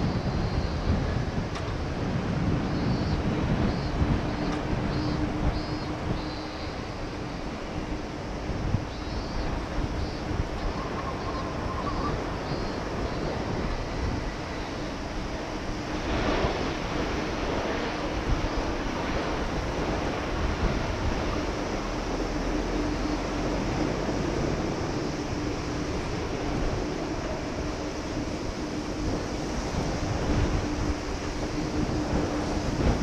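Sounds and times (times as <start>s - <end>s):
jet engines: 0.0s - 33.0s
wind buffeting microphone: 0.0s - 33.0s.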